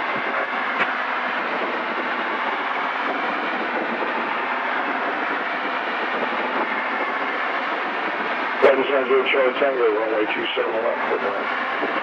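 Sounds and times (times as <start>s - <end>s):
light aircraft cabin noise: 0.0s - 12.0s.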